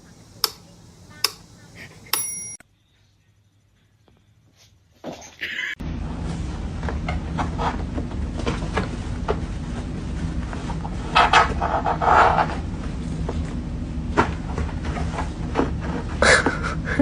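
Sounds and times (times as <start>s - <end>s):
steady low hum: 0.0s - 4.6s, 5.8s - 17.0s.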